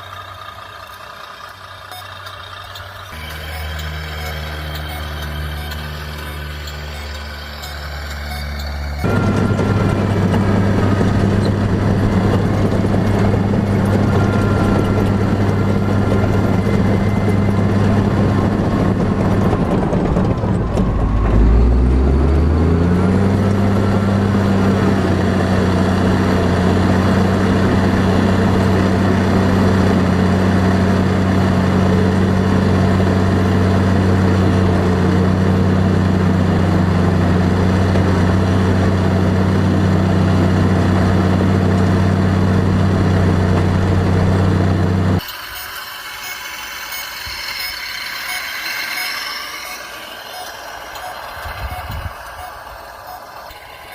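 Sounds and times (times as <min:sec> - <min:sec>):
heavy vehicle engine droning: 0:00.0 - 0:53.9.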